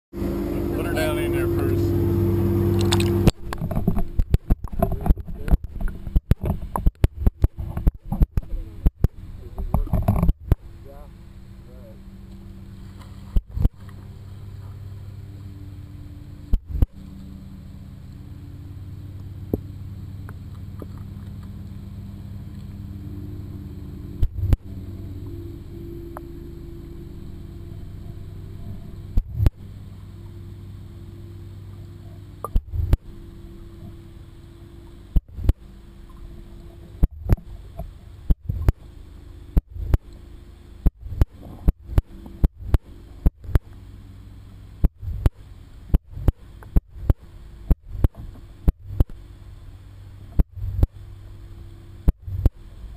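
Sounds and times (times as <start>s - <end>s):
low underwater hum: 0.1s - 52.9s.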